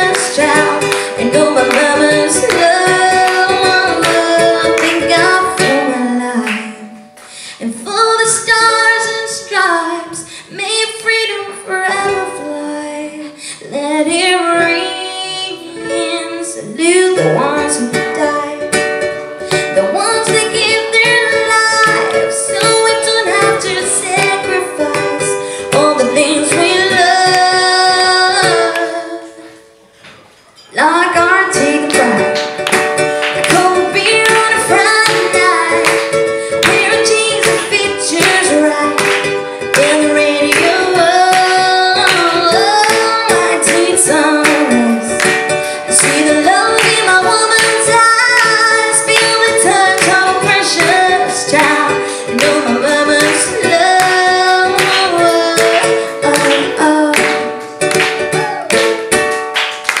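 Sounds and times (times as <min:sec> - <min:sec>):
woman singing: 0:00.0 - 0:29.7, 0:30.7 - 0:58.8
strummed guitar: 0:00.0 - 1:00.0.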